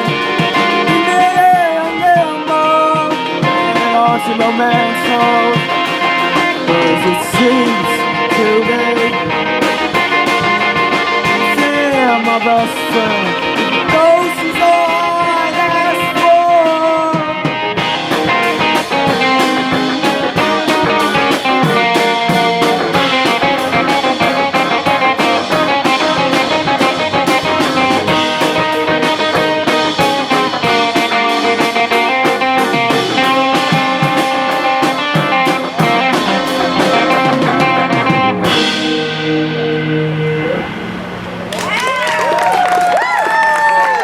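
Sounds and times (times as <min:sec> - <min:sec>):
drum beat: 0:00.0 - 0:38.6
electric guitar: 0:00.0 - 0:44.0.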